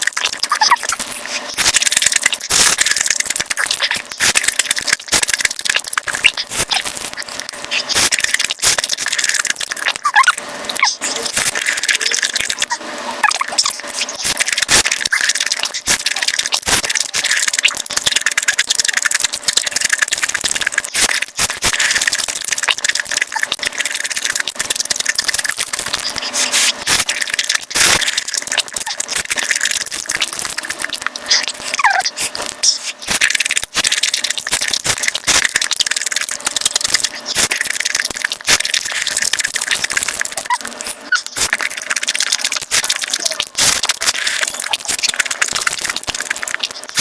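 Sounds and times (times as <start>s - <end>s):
chewing clicks and wet smacks: 0.0s - 47.0s.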